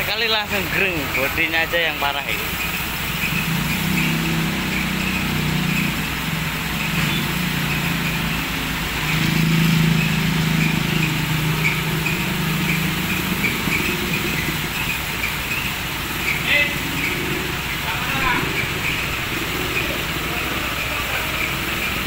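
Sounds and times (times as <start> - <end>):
engine idling: 0.0 - 22.0
pressure washer spraying: 0.0 - 22.0.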